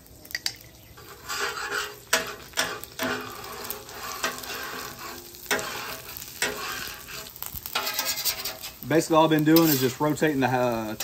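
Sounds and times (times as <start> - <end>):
food sizzling: 0.0 - 11.0
metal spatula scraping griddle: 1.0 - 11.0.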